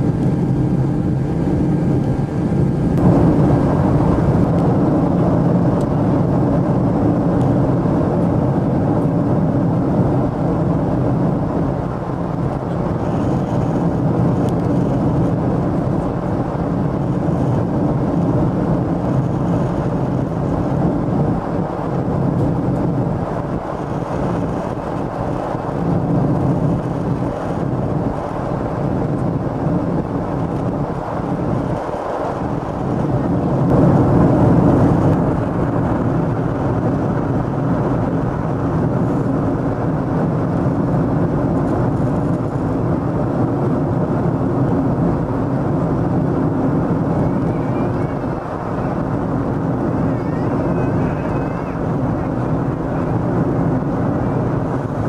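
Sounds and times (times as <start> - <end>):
airplane cabin roar: 0.0 - 55.0.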